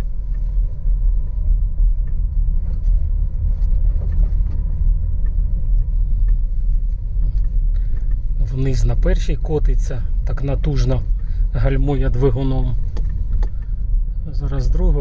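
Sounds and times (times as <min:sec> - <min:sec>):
interior trim ticks and creaks: 0:00.0 - 0:14.8
car cabin rumble: 0:00.0 - 0:15.0.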